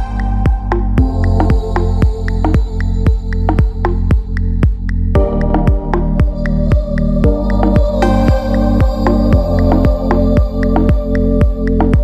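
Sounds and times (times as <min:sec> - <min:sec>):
kick drum: 0:00.0 - 0:12.0
sustained synth notes: 0:00.0 - 0:12.0.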